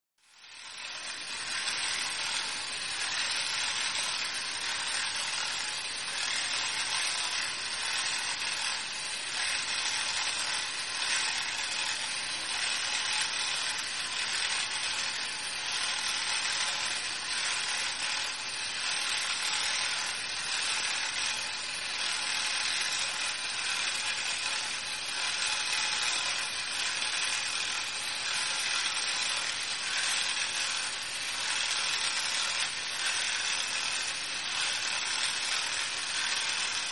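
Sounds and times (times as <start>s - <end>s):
small gear motor running: 0.2s - 36.9s.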